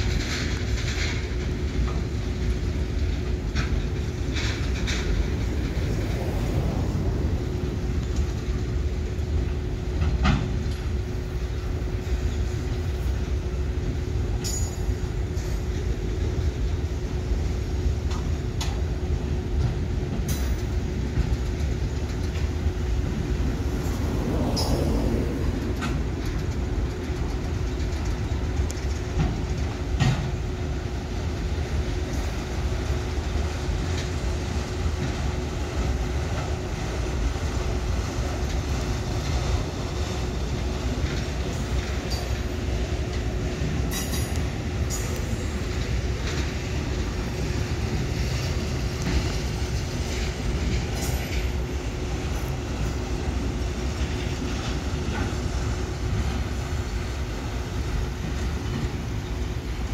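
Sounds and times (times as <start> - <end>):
train railcars rumbling: 0.0 - 59.9
wheels clicking over rails: 0.0 - 59.9.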